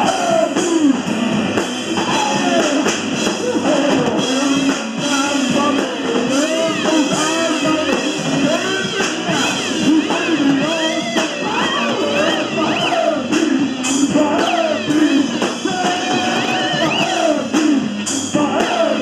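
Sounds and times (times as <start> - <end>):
rock band playing: 0.0 - 19.0
swooping lead guitar line: 0.0 - 19.0.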